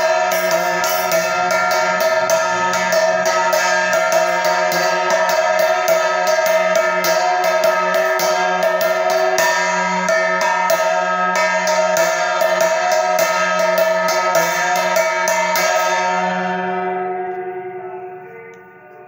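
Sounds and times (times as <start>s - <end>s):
bells rung rapidly: 0.0s - 18.0s.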